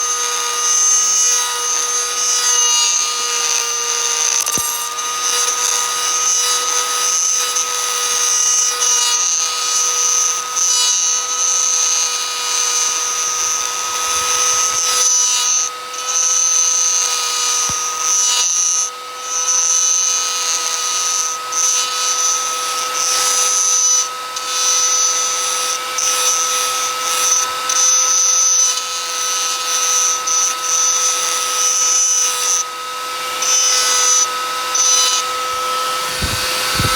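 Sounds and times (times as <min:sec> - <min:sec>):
power tool whining on wood: 0:00.0 - 0:36.9.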